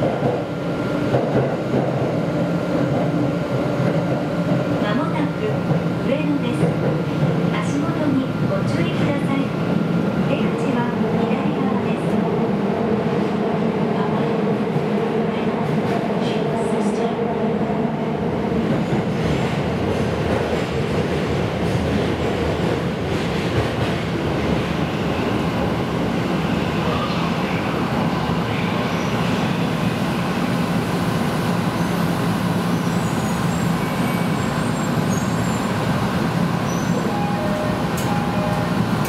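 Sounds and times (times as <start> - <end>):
train wheels rumbling on rails: 0.0 - 17.0, 18.2 - 39.0.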